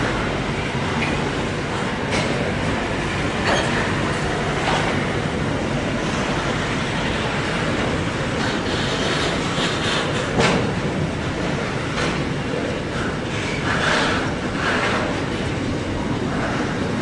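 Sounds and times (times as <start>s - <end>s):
steel wheels rumbling on track: 0.0s - 17.0s
wheels clicking over rail joints: 1.0s - 17.0s.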